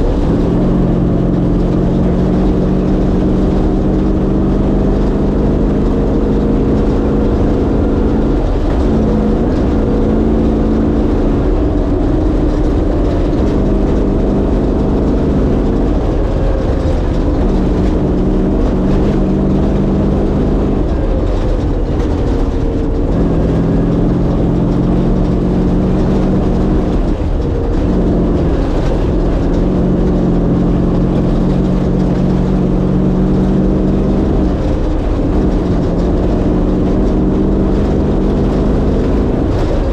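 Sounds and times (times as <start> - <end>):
vee-eight engine rumbling: 0.0 - 39.9.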